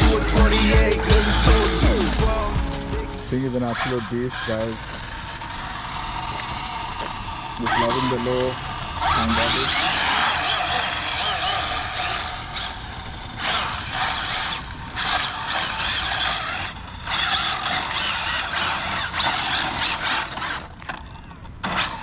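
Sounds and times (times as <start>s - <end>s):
rc car motor whirring: 4.2s - 22.0s.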